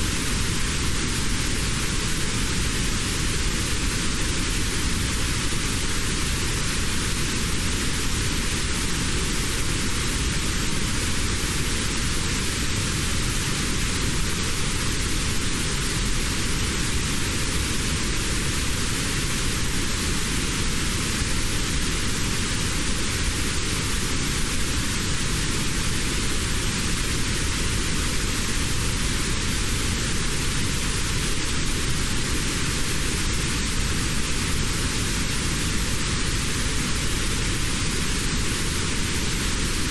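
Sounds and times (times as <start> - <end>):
notched white noise hiss: 0.0 - 39.9.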